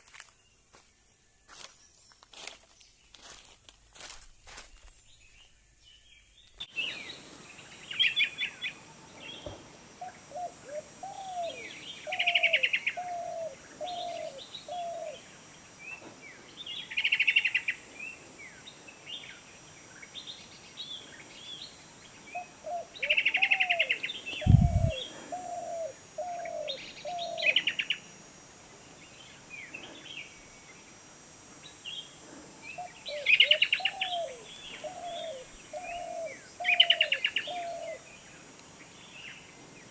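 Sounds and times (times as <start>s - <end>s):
steady high hiss: 2.4s - 39.9s.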